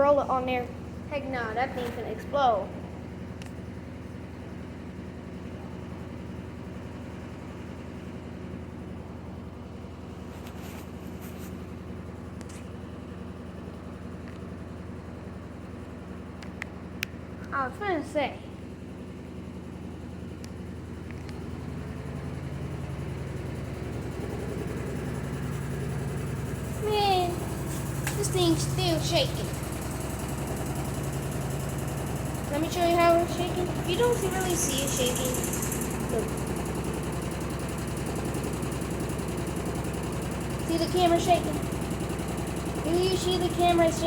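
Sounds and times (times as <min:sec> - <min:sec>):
washing machine rumbling and pulsing: 0:00.0 - 0:44.0.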